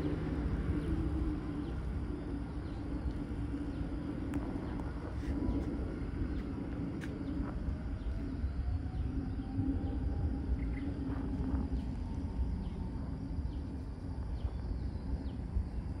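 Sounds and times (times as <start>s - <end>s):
distant jet engines rumbling: 0.0s - 16.0s.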